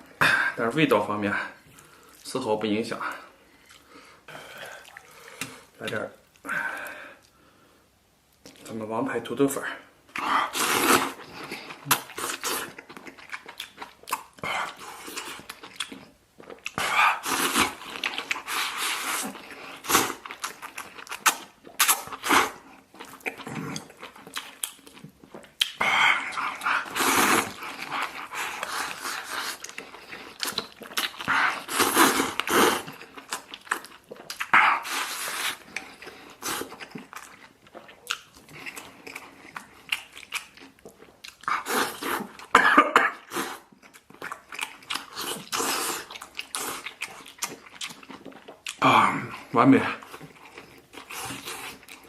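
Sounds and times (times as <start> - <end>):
person chewing food: 3.1 - 7.4, 8.3 - 8.7, 10.1 - 52.0.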